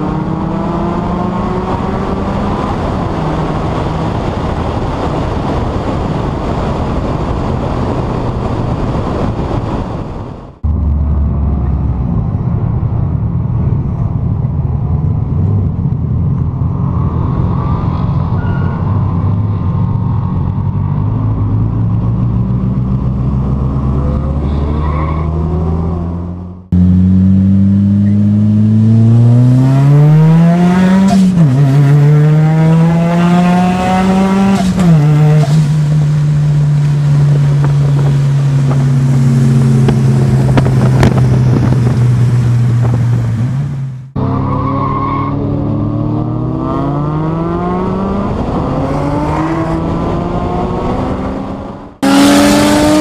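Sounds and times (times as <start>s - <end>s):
car engine accelerating hard: 0.0s - 10.0s, 10.6s - 53.0s.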